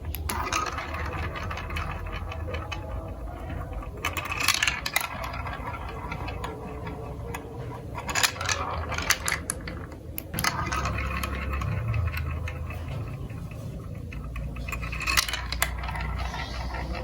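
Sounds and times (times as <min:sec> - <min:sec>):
marbles rolling and clicking: 0:00.0 - 0:17.0.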